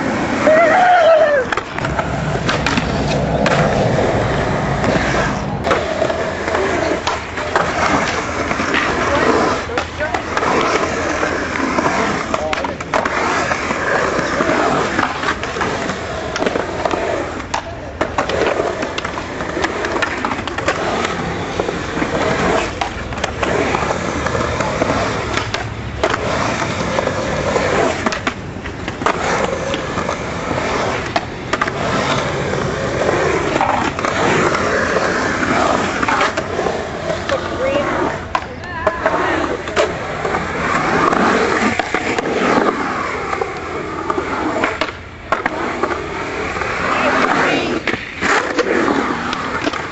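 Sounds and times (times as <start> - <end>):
skateboard clacks: 0.0 - 49.9
skateboard wheels rolling on concrete: 0.0 - 49.9.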